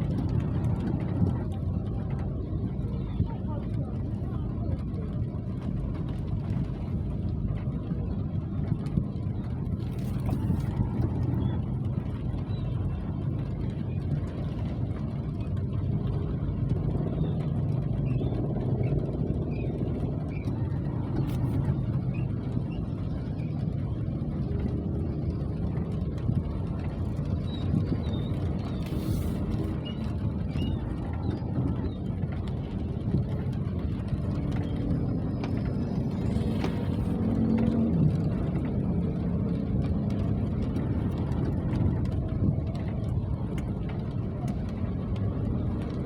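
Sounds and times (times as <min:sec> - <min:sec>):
rain rumbling: 0:00.0 - 0:46.0.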